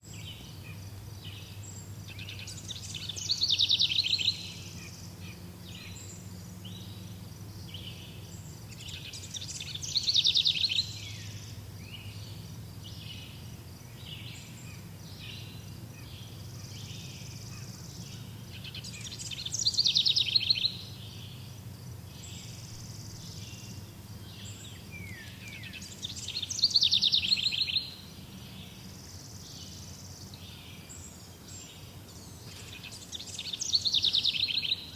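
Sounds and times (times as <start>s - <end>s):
bird trilled song: 0.0s - 34.9s
quieter bird chirps: 0.0s - 34.9s.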